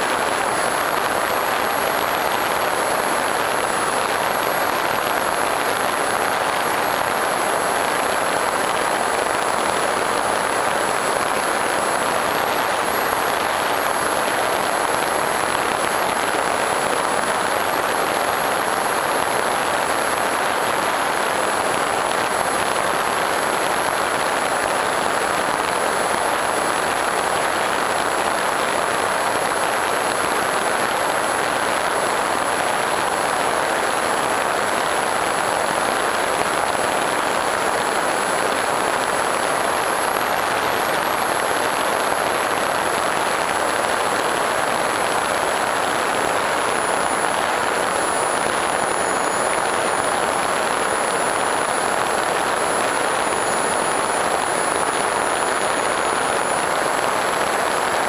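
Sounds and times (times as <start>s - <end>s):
thin high whine: 0.0s - 58.0s
model plane propeller drone: 0.1s - 57.9s.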